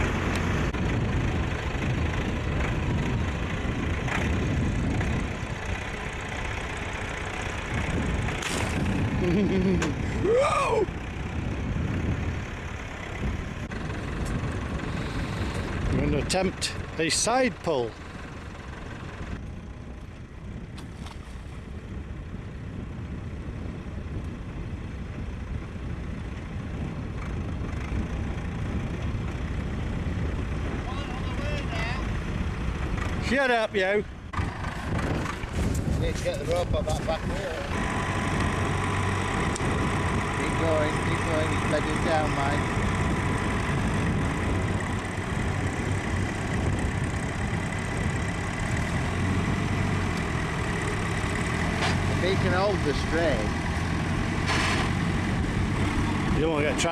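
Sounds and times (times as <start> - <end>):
tractor engine under load: 0.0 - 10.2, 10.8 - 56.9.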